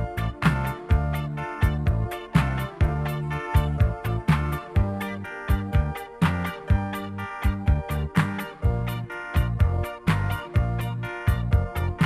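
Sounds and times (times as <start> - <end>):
instrumental backing music: 0.0 - 12.0.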